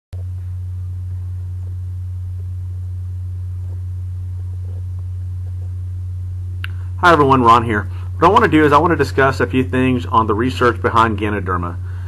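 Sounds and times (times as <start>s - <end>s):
steady low hum: 0.1s - 12.0s
faint hiss: 0.2s - 12.0s.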